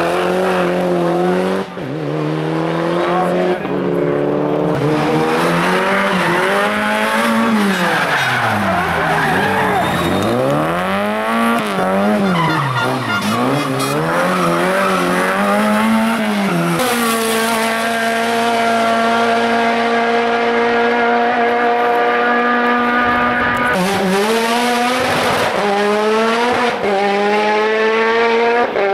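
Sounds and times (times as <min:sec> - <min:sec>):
race car engine revving: 0:00.0 - 0:28.9.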